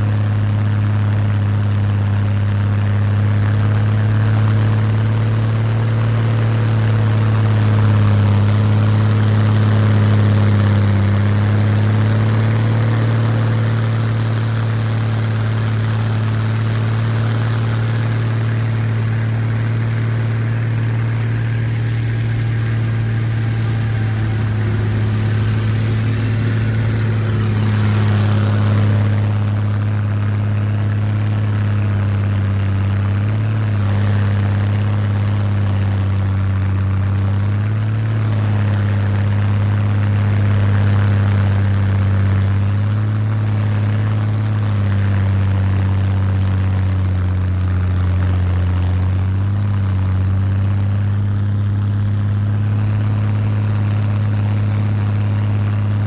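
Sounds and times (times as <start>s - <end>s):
snowcat engine droning: 0.0s - 56.0s.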